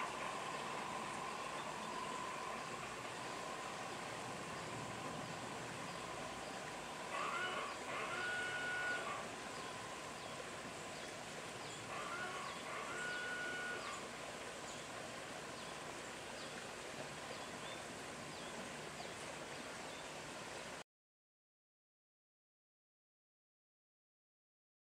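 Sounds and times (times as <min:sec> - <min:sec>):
outdoor ambience: 0:00.0 - 0:20.8.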